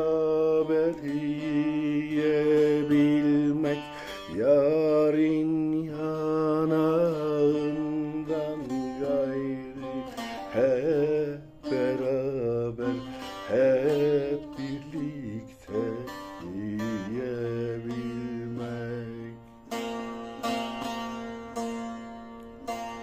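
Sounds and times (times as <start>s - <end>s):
plucked string notes: 0.0s - 23.0s.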